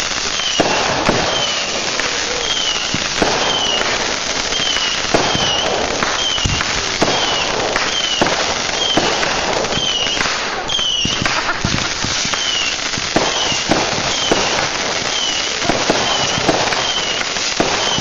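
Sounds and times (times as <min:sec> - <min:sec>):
falling firework whistles: 0:00.0 - 0:18.0
fireworks crackling: 0:00.0 - 0:18.0
fireworks sharp bangs: 0:00.0 - 0:18.0.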